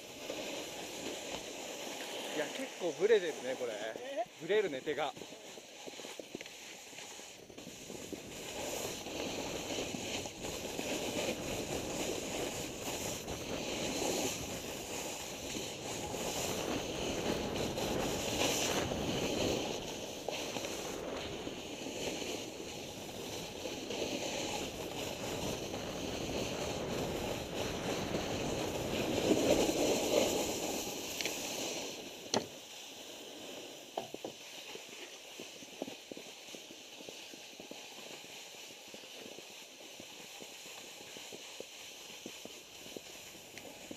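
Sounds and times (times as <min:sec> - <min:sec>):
snowboard scraping over snow: 0:00.0 - 0:43.9.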